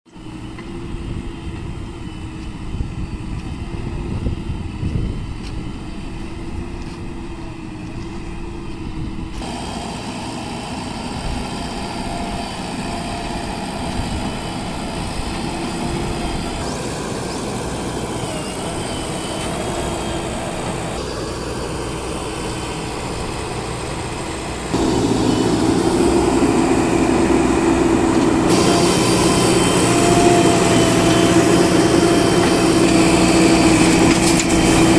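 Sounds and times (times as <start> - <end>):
heavy vehicle engines running: 0.1 - 34.9.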